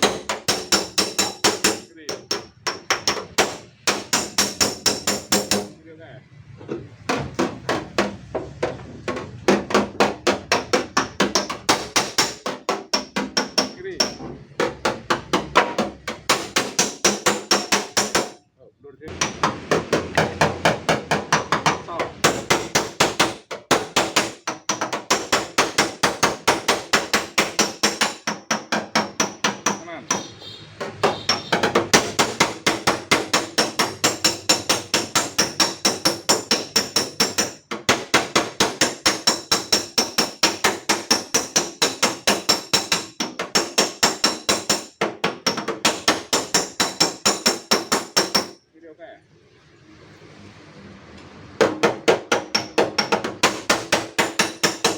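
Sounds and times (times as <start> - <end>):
hammering on sheet metal: 0.0 - 5.8, 6.9 - 18.4, 19.1 - 48.6, 51.6 - 54.9.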